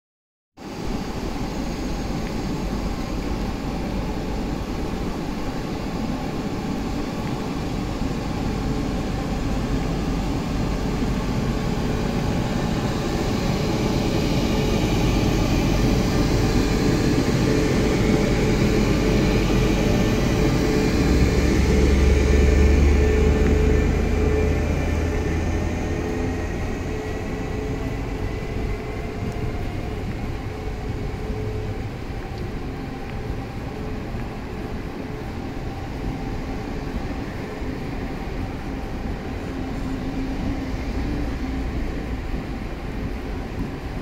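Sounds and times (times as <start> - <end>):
faint rising whine: 0.6 - 44.0
electric train running: 0.7 - 44.0
steady hum: 0.7 - 44.0.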